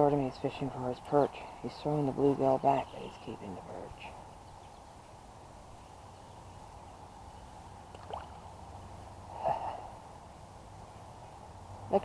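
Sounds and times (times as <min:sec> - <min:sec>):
quiet outdoor background noise: 0:00.0 - 0:12.0.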